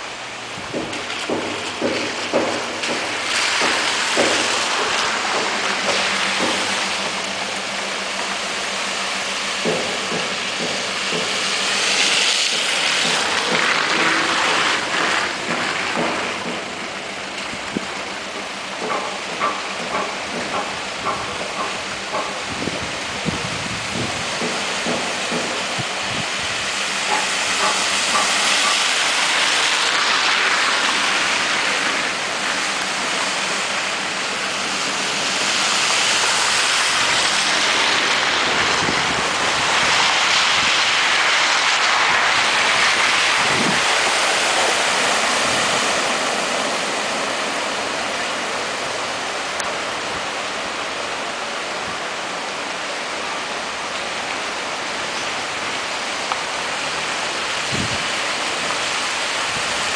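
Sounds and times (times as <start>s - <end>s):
tyres splashing through water: 0.0s - 59.9s.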